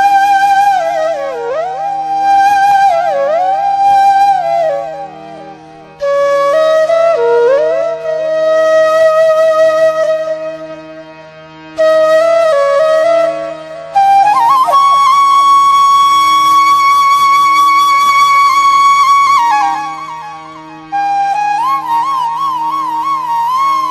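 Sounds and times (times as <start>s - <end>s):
flute melody: 0.0s - 11.1s, 11.7s - 23.9s.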